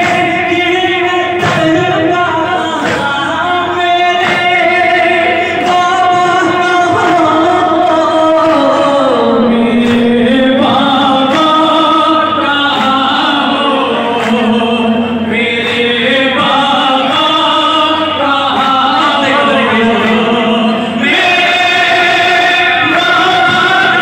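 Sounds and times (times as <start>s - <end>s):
man chanting a lament: 0.0s - 24.0s
men singing in chorus: 0.0s - 24.0s.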